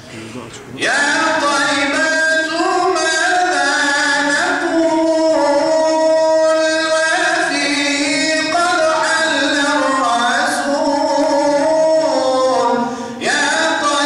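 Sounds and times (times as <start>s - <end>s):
man singing into a microphone: 0.8s - 14.0s.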